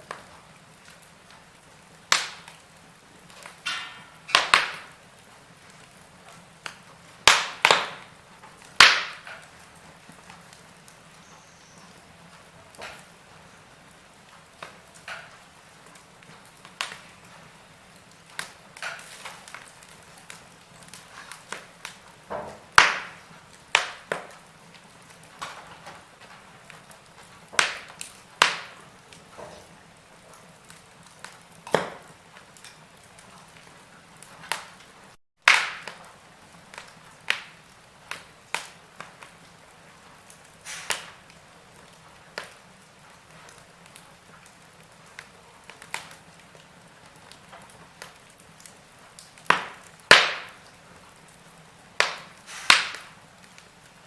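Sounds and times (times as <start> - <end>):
faint steady hiss: 0.0 - 35.2, 35.8 - 54.0
wood fire crackling: 0.0 - 54.0.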